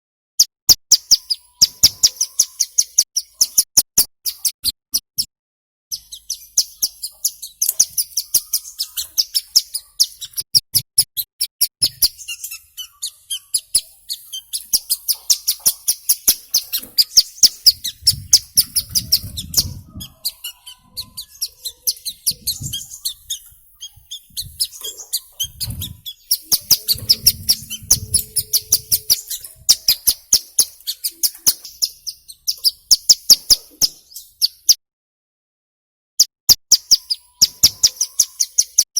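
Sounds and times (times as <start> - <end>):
bird chirping rapidly: 0.9 - 5.3, 5.9 - 34.8, 36.5 - 38.9.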